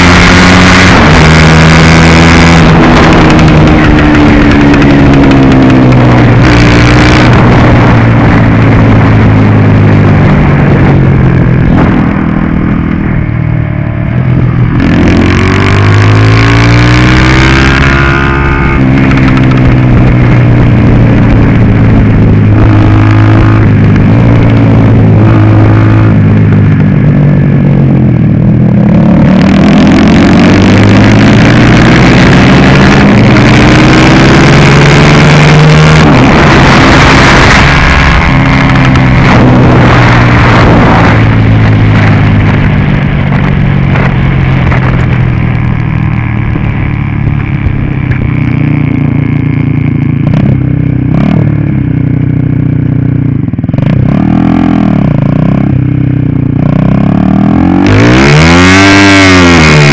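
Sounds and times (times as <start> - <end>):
go-kart engine running hard: 0.0 - 45.7, 46.4 - 59.9.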